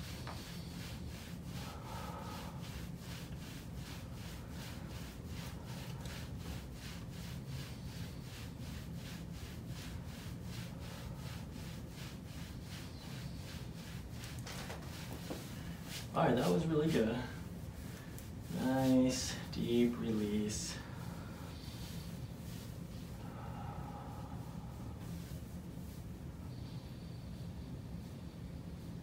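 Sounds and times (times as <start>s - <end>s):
hands rubbing on shirt: 0.0s - 23.2s, 24.0s - 26.2s
low steady hum: 0.0s - 29.0s.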